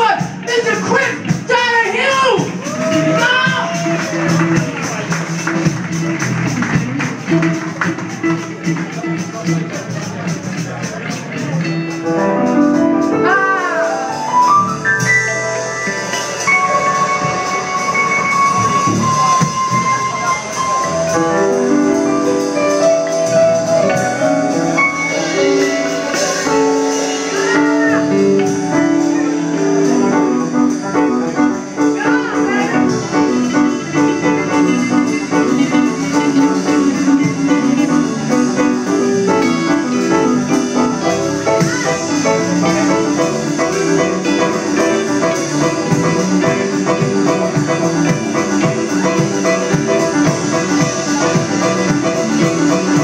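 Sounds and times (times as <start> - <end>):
electric keyboard solo: 0.0 - 53.0
live band music: 0.0 - 53.0.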